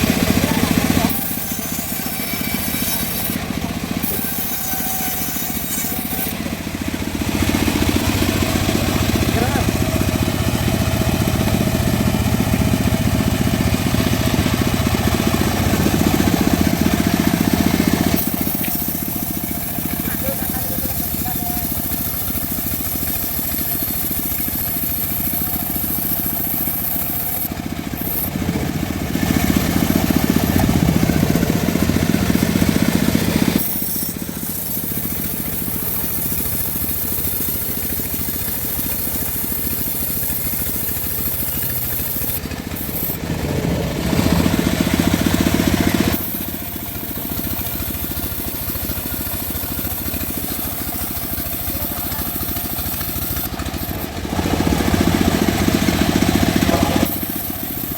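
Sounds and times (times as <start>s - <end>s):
bandsaw mill sawing log: 0.0s - 57.9s.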